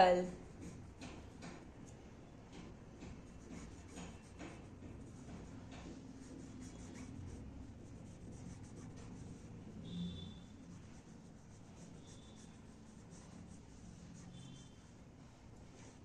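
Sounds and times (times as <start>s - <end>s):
marker scratching on paper: 0.4s - 1.6s, 2.5s - 16.0s.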